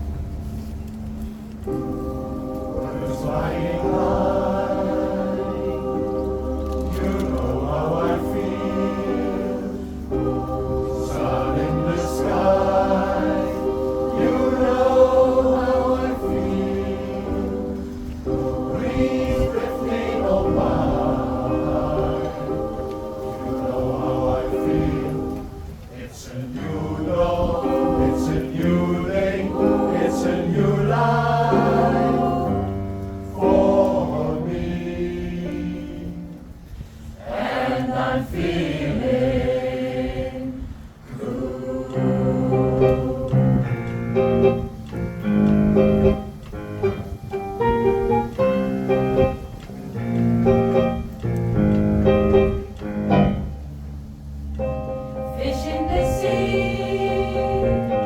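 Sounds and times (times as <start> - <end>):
pop choir singing in harmony: 1.7 - 46.1, 55.1 - 58.0.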